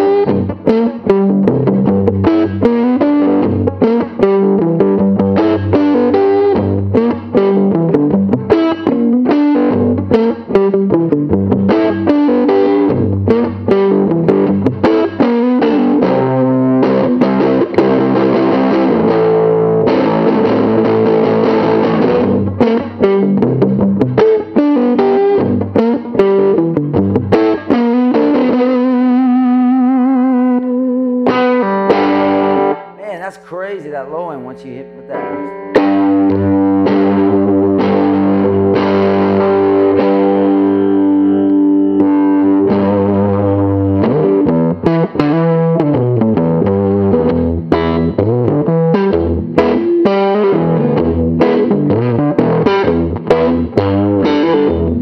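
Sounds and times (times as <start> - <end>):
overdriven electric guitar: 0.0 - 55.0.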